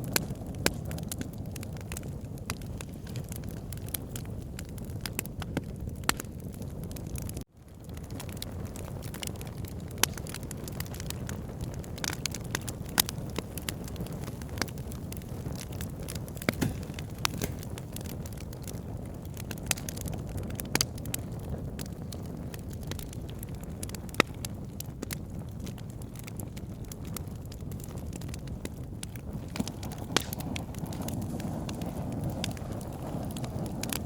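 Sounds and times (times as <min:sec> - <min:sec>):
burning wood crackling: 0:00.0 - 0:34.0
rumble of campfire flames: 0:00.0 - 0:34.0.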